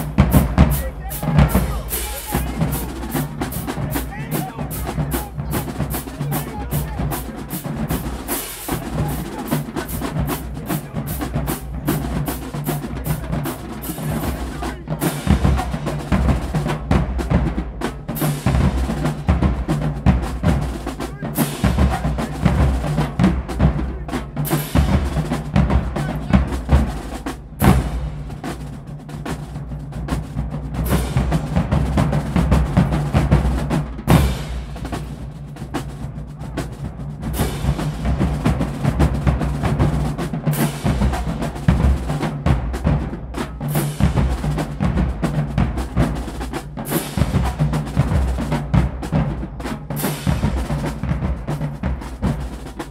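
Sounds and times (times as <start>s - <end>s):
marching drumline: 0.0s - 52.9s.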